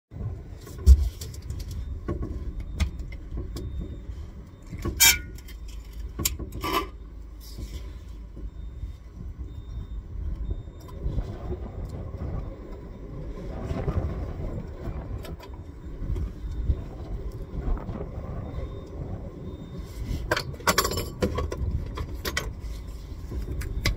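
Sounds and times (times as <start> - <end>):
low uneven rumble: 0.1 - 23.9.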